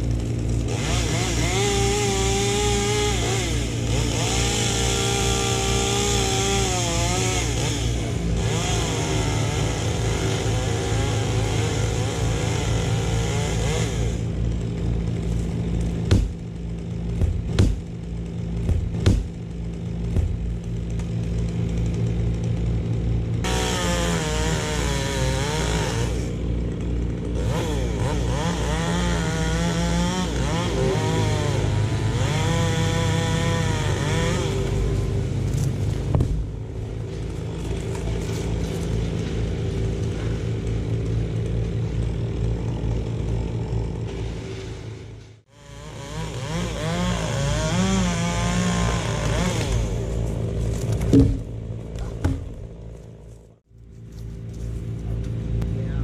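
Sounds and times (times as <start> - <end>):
chainsaw cutting wood: 0.0 - 55.7.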